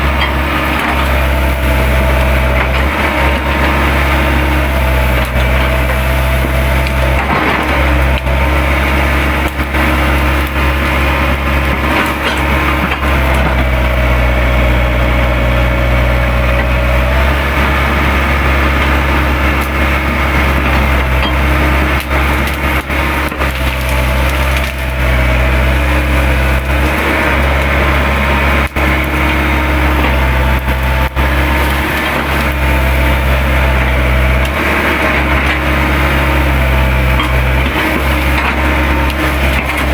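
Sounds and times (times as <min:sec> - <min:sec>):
excavator diesel engine running: 0:00.0 - 0:39.9
hydraulic whine: 0:00.0 - 0:39.9
branches cracking and splintering: 0:00.7 - 0:13.7, 0:18.4 - 0:39.9.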